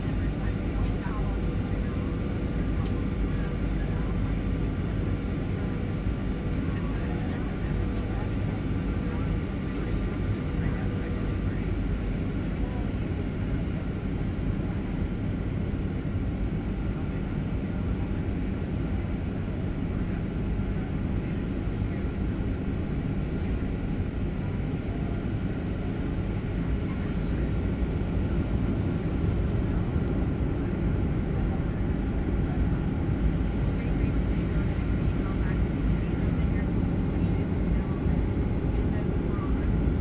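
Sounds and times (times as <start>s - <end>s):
jet engine rumble in cabin: 0.0s - 40.0s.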